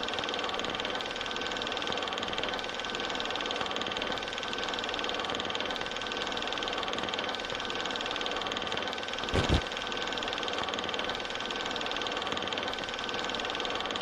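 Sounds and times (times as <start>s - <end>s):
mechanical hum with whining tones: 0.0s - 14.0s.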